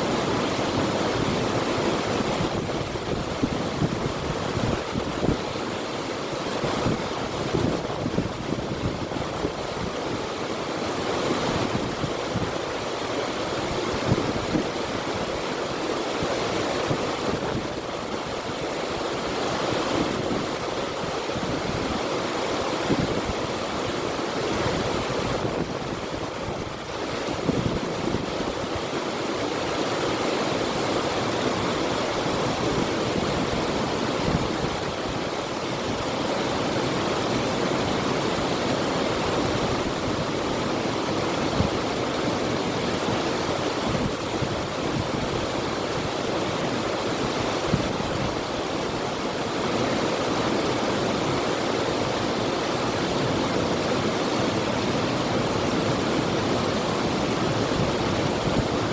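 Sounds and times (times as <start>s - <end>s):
river water rushing: 0.0s - 58.9s.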